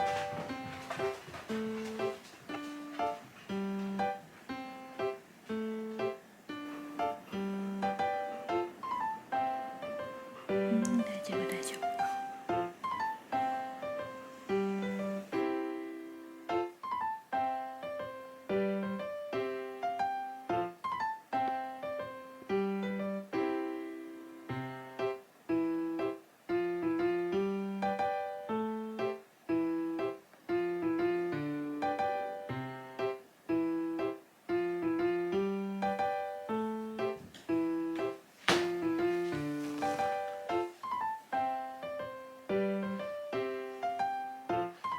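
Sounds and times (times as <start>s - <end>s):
gentle piano melody: 0.0s - 44.9s.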